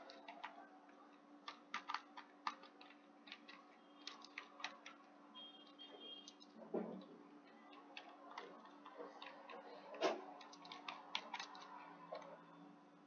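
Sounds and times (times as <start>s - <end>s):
keyboard typing clicks: 0.0s - 6.5s, 7.5s - 12.3s.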